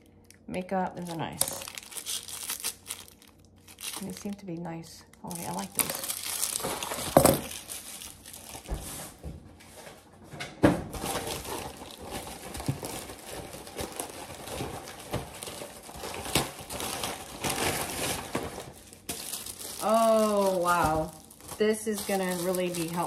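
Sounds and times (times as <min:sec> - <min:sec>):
plastic packaging crinkling: 0:00.0 - 0:09.2, 0:10.9 - 0:23.0.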